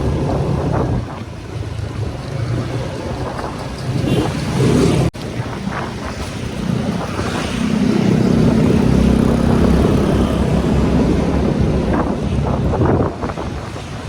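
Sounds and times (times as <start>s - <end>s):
motorcycle engine running: 0.0s - 13.9s
wind buffeting microphone: 0.0s - 14.0s.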